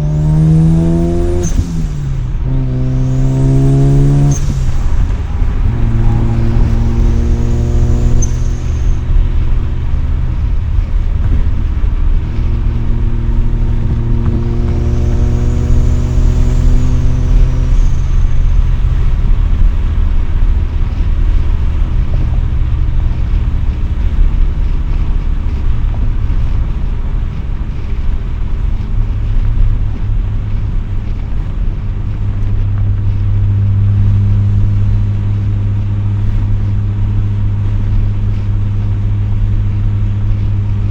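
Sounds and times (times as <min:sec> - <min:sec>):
rotary engine revving: 0:00.0 - 0:40.9.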